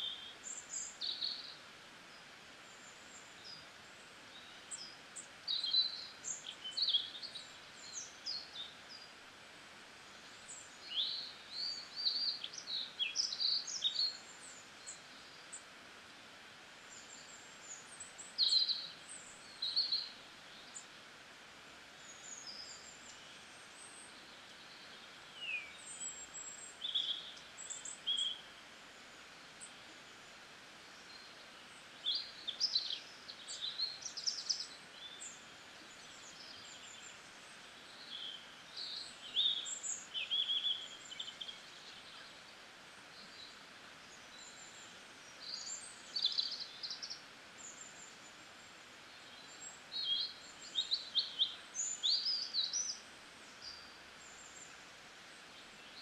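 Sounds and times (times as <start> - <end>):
small birds chirping: 0.0 - 56.0
steady faint hiss: 0.0 - 56.0.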